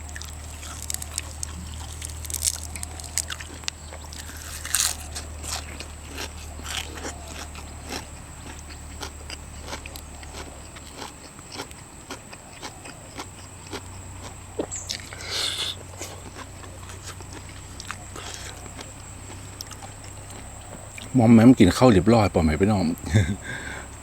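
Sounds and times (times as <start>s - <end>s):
person chewing seafood: 0.0s - 21.1s.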